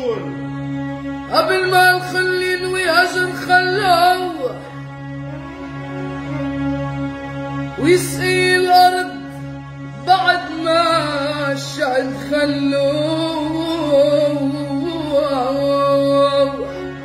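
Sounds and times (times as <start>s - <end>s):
instrumental backing: 0.0s - 17.0s.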